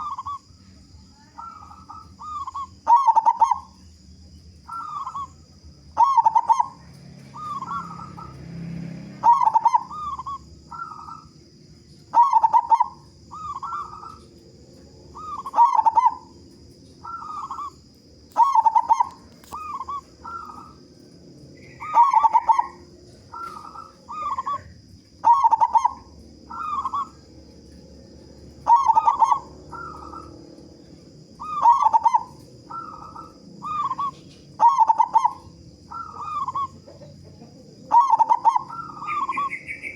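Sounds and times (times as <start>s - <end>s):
dove cooing: 0.0s - 3.9s, 4.6s - 39.9s.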